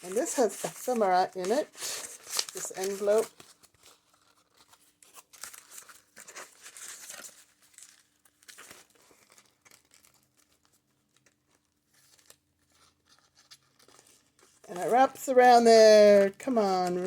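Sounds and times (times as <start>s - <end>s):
paper rustling and crinkling: 0.0s - 17.0s.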